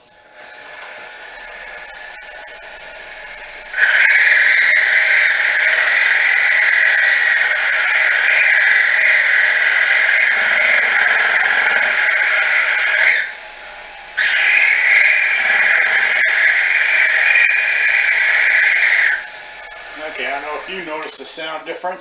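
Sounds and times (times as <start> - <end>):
mill high-pitched cutting noise: 0.0 - 22.0.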